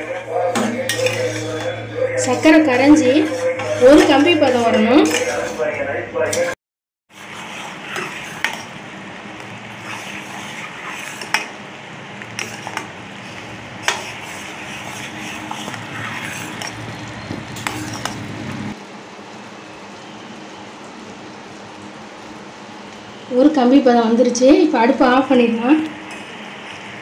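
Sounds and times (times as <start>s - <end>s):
syrup boiling with a hiss: 0.0s - 27.0s.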